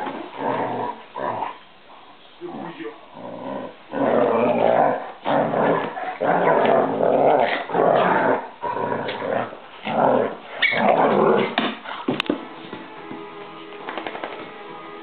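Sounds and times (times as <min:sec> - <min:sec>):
dogs growling while play-fighting: 0:00.0 - 0:12.1.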